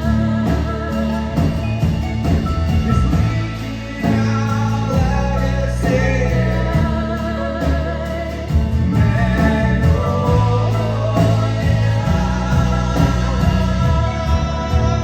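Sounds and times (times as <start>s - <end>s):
guitar: 0.0s - 15.0s
sustained low notes: 0.0s - 15.0s.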